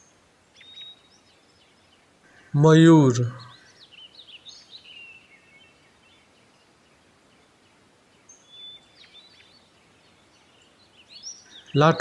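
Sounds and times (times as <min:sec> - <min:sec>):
faint bird chirps: 0:00.0 - 0:12.0
quiet outdoor hiss: 0:00.0 - 0:12.0.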